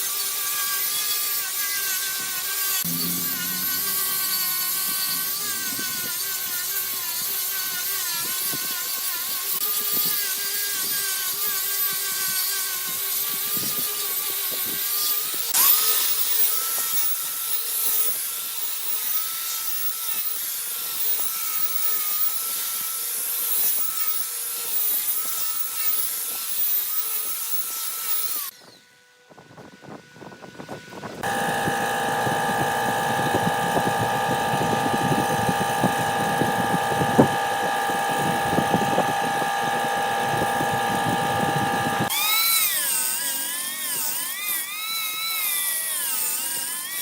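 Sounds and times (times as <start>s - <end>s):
wood lathe motor whine: 0.0s - 26.3s, 29.8s - 47.0s
tool cutting spinning wood: 0.0s - 28.5s, 31.1s - 47.0s.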